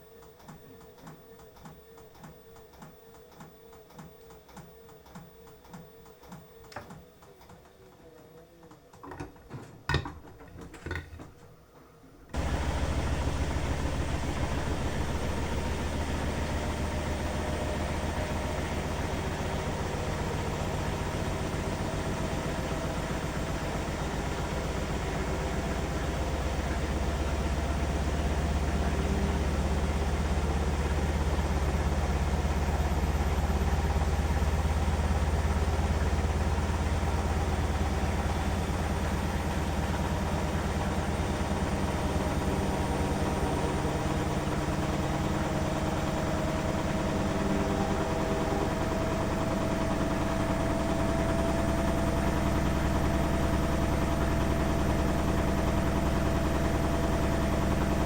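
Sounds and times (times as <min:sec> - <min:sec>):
washing machine motor spinning: 0:00.0 - 0:58.0.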